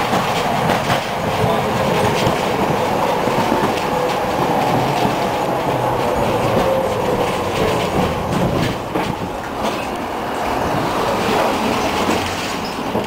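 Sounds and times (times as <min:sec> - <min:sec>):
rail joint clicks: 0:00.0 - 0:13.0
tram wheels rumbling on rails: 0:00.0 - 0:13.0.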